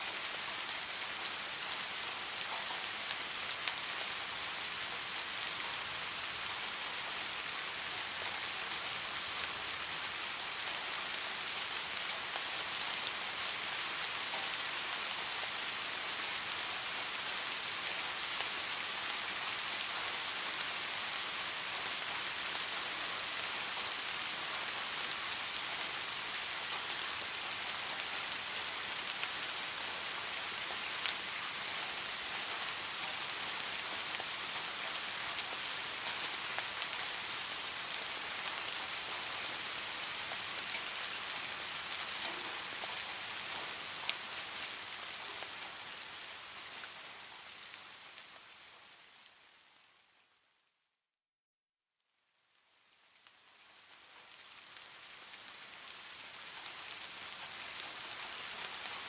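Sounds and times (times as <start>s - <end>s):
rain falling on surface: 0.0s - 50.6s, 52.1s - 59.0s.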